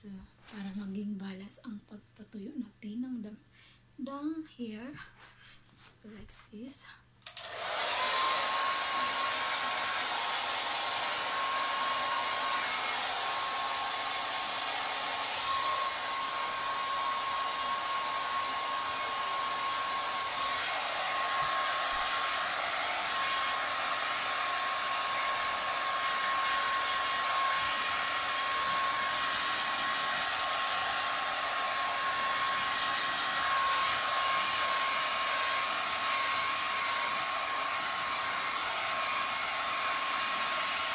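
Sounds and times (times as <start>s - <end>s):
hair dryer whining: 7.2s - 40.9s.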